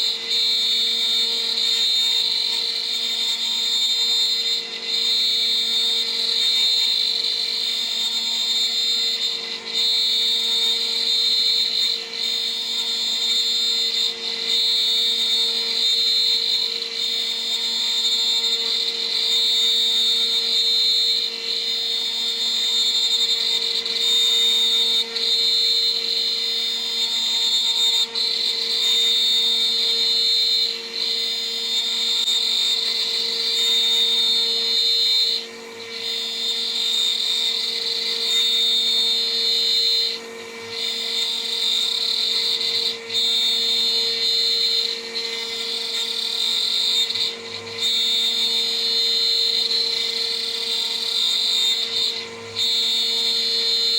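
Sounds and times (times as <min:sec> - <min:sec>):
router spindle milling with whine: 0:00.0 - 0:53.9.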